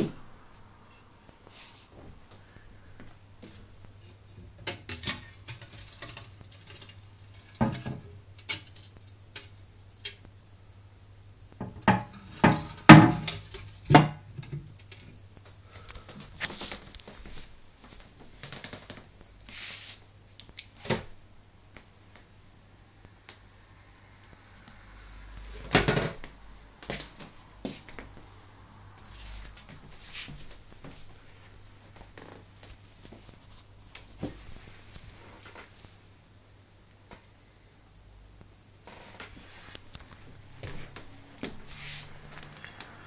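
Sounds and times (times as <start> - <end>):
faint steady low hum: 0.0 - 43.0.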